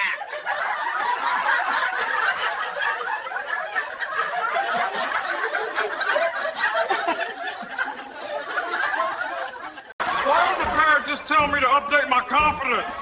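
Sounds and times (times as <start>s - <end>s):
crowd laughing: 0.0s - 13.0s.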